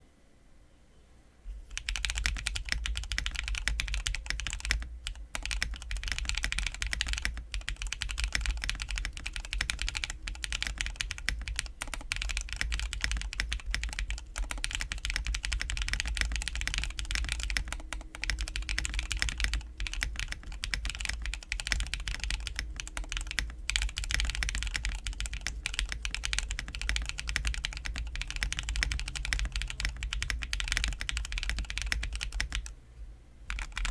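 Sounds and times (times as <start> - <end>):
mechanical keyboard typing: 1.7 - 32.8, 33.5 - 33.9.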